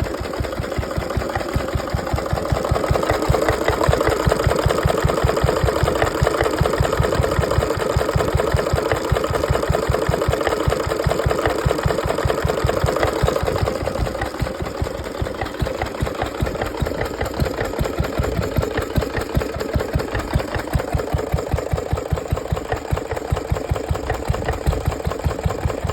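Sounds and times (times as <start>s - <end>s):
stationary engine running: 0.0s - 25.9s.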